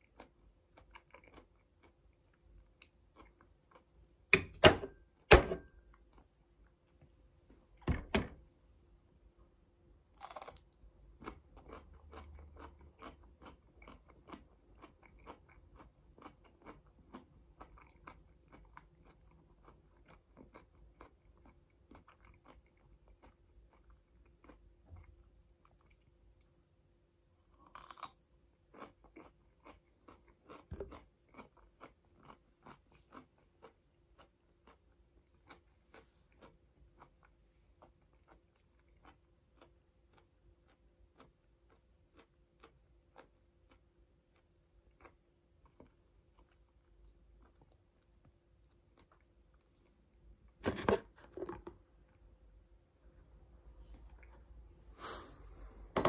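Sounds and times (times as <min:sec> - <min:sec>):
person chewing crunchy food: 0:00.0 - 0:06.8, 0:10.2 - 0:26.5, 0:27.4 - 0:52.2.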